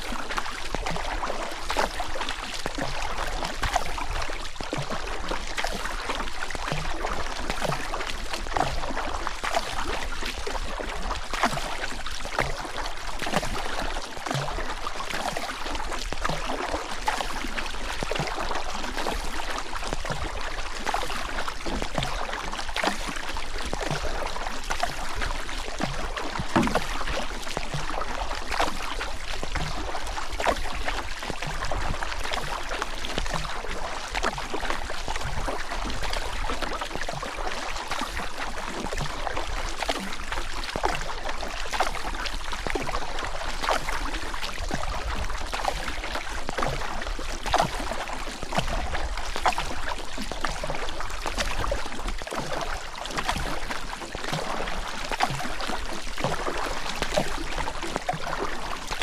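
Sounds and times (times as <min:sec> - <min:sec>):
water splashes: 0:00.0 - 0:59.0.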